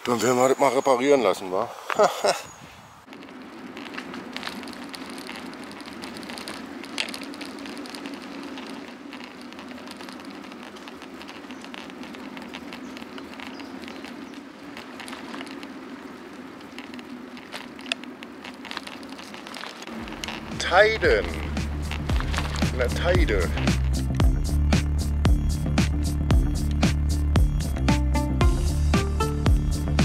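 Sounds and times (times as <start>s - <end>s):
bicycle tyre hum on asphalt: 0.0s - 30.0s
sharp bicycle click: 3.1s - 27.3s.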